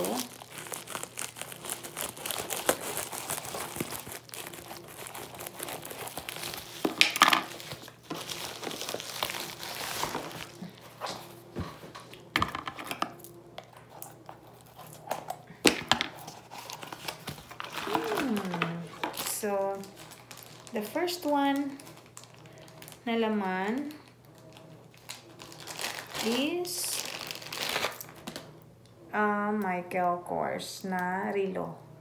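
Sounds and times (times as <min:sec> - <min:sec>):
scissors cutting plastic bag: 0:00.0 - 0:11.2, 0:12.4 - 0:28.5
plastic crinkling and rustling: 0:00.0 - 0:28.6.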